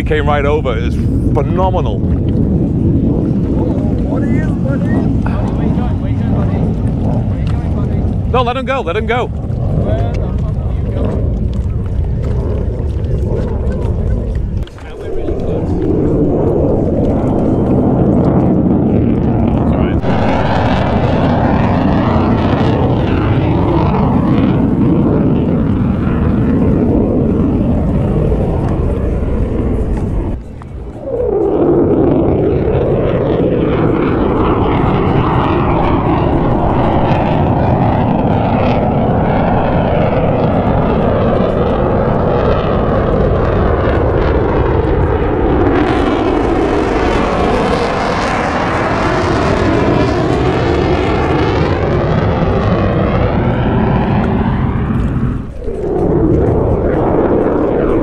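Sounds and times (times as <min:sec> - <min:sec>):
jet aircraft flying over: 0:00.0 - 0:58.0.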